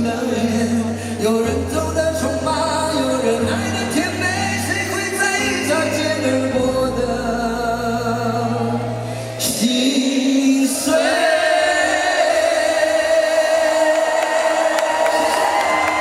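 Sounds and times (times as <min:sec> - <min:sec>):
man singing a long high note: 0:00.0 - 0:15.4.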